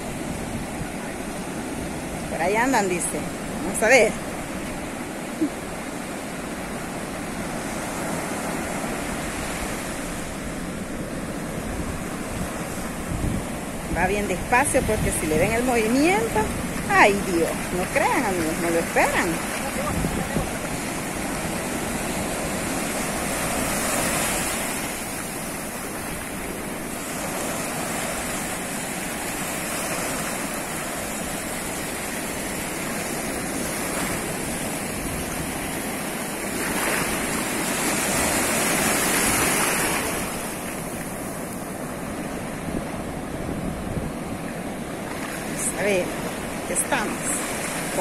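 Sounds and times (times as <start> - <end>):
ocean waves breaking: 0.0 - 48.0.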